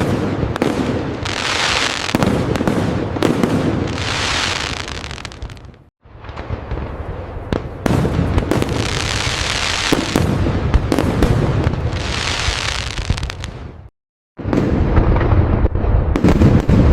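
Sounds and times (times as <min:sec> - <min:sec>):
fireworks rumble and bangs: 0:00.0 - 0:16.9.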